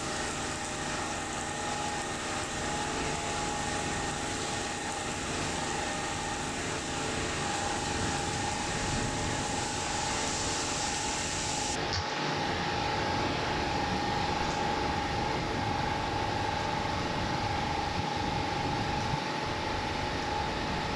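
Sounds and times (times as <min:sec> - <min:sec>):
steady hum tone: 0:00.0 - 0:20.9.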